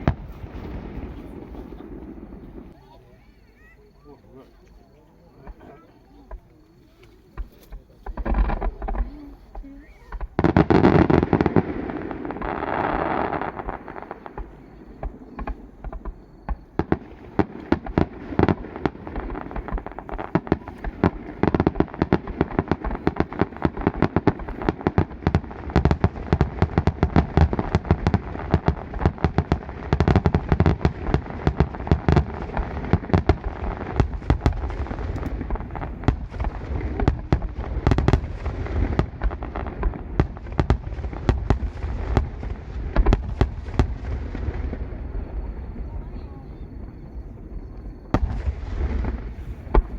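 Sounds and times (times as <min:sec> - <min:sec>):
fireworks bursting and crackling: 0:00.0 - 0:03.8, 0:05.3 - 0:49.9.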